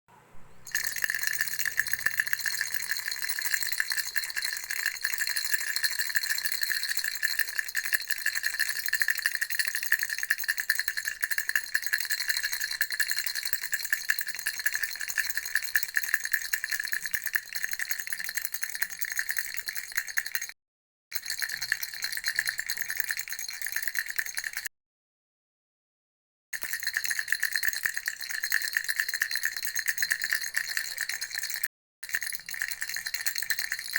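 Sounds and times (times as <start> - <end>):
baby rattle shaken rapidly: 0.7 - 20.5, 21.2 - 24.7, 26.6 - 33.9.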